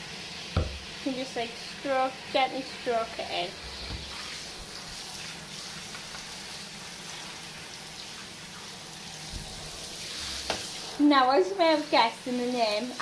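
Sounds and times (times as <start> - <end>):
shower water spraying: 0.0 - 13.0.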